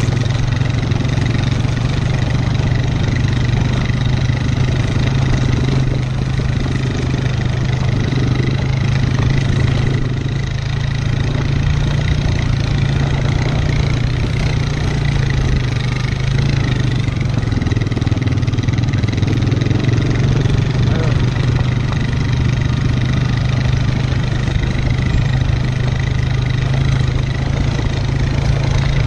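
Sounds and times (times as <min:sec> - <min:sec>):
atv engine running steadily: 0:00.0 - 0:29.0.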